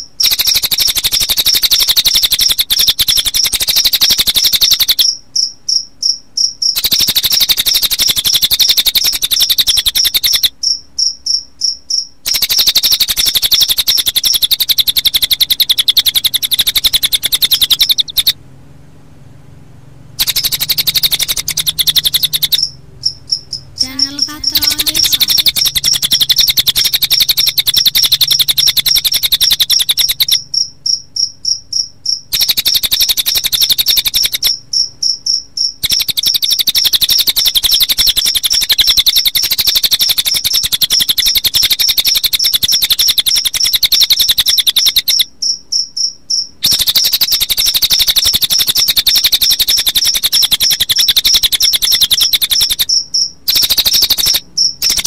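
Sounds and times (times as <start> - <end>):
bird song: 0.0 - 18.4, 20.2 - 55.0
crickets chirping: 0.0 - 18.4, 20.2 - 55.0.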